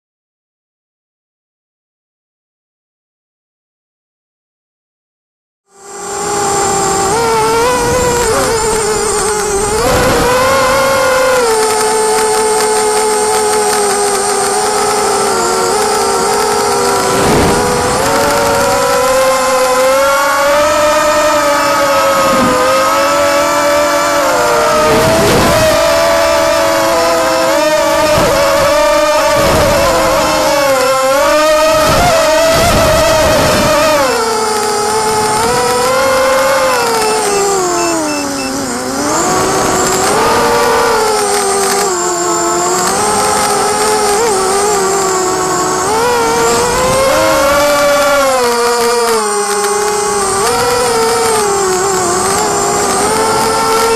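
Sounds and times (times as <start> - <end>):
quadcopter motors buzzing: 5.7 - 53.9.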